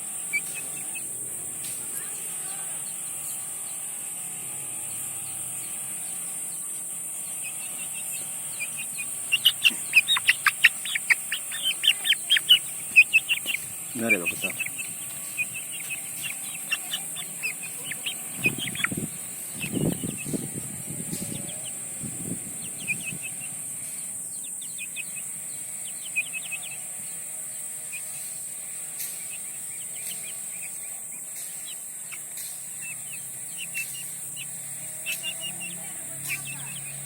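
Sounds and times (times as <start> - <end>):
chickens chirping: 0.0 - 37.0
chickens clucking: 0.0 - 37.0.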